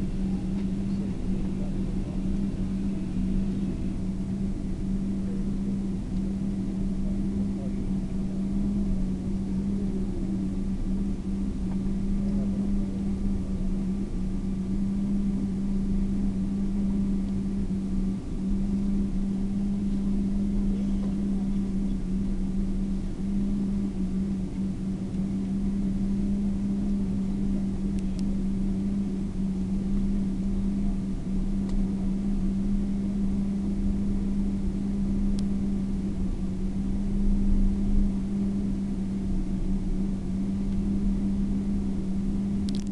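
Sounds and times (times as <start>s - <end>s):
aircraft cabin rumble: 0.0s - 42.9s.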